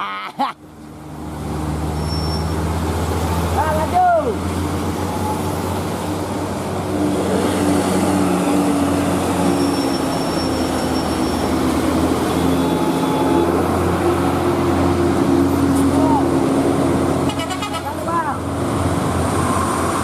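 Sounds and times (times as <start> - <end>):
diesel truck engine droning: 0.6 - 20.0.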